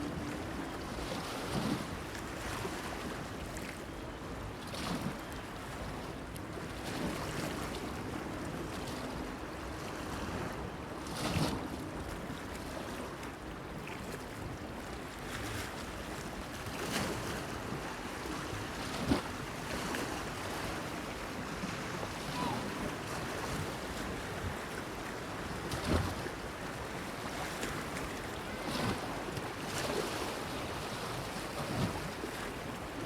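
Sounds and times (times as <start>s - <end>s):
light wind: 0.0s - 33.0s
small waves lapping: 4.6s - 33.0s.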